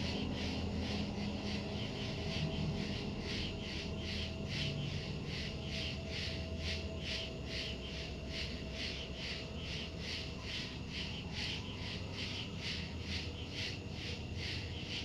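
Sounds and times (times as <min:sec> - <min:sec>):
low hum: 0:00.0 - 0:14.8.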